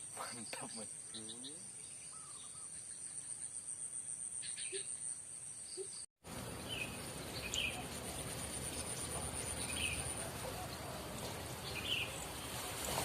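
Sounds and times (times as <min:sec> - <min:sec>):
bird chirps: 0:00.1 - 0:12.7.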